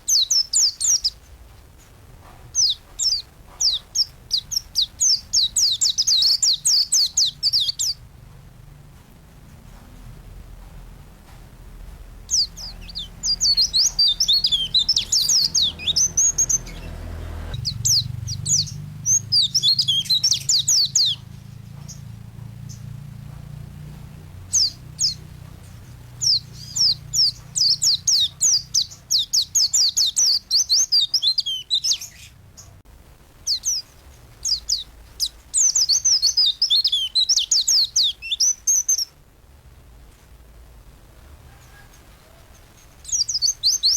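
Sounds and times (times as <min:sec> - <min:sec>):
white-eye bird singing: 0:00.0 - 0:01.2, 0:02.5 - 0:08.1, 0:12.2 - 0:32.8, 0:33.5 - 0:39.2, 0:41.6 - 0:43.9
faint low hum: 0:00.0 - 0:43.9.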